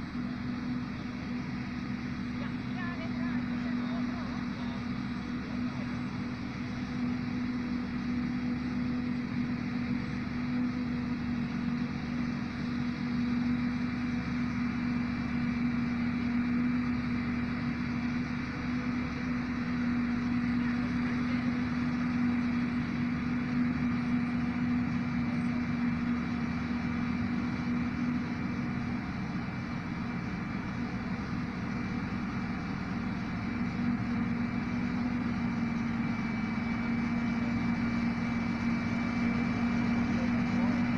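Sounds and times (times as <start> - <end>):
tractor engine hum: 0.0 - 40.9.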